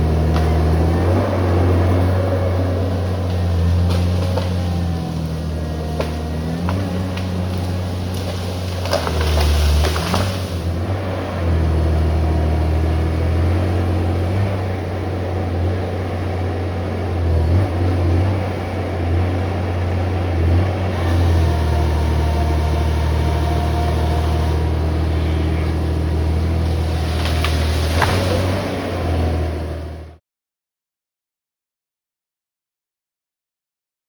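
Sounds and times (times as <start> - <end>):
diesel engine running: 0.0 - 30.2.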